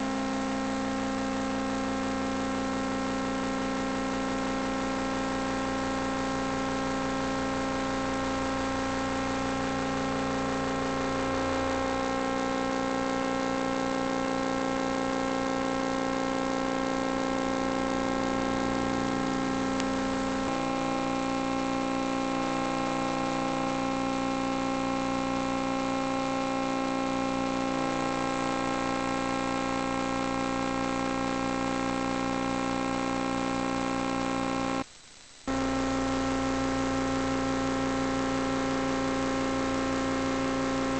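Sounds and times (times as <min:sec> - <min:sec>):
electrical hum and whine: 0:00.0 - 0:40.9.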